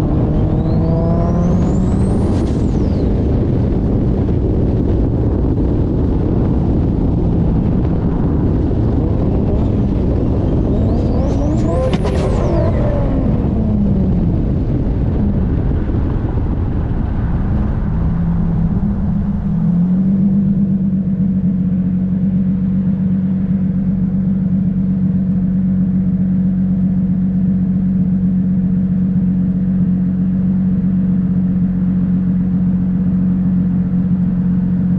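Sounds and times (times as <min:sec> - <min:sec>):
car engine winding down and idling: 0:00.0 - 0:34.9.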